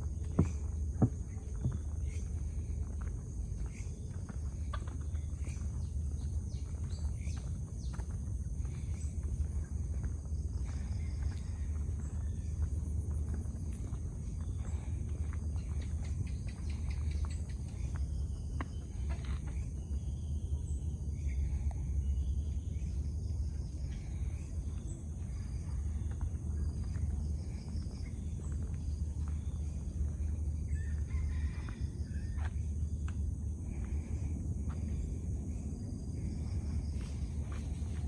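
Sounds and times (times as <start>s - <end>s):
low rumble: 0.0s - 38.0s.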